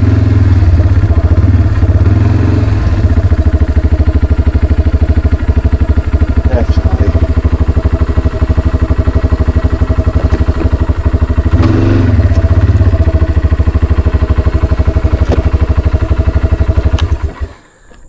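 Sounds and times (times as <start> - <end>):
atv engine running at low revs: 0.0 - 18.0.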